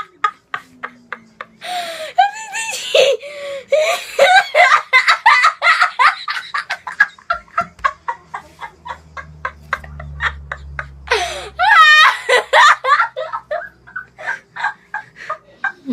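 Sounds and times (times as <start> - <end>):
boy giggling hysterically: 0.0 - 15.9.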